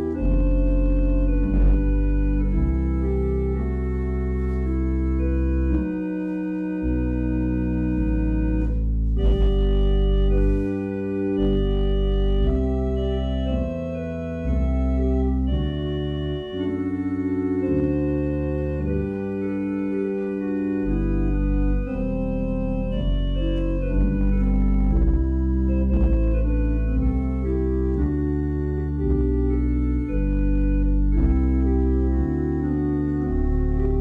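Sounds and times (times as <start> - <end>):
organ playing sustained chords: 0.0 - 34.0.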